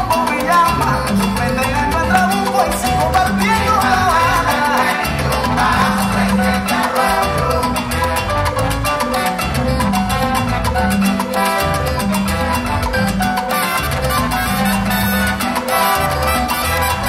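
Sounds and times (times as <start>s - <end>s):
salsa music: 0.0s - 17.0s.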